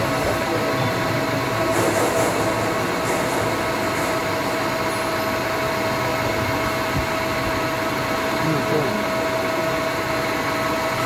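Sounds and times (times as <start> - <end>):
lathe running with whine: 0.0 - 11.0.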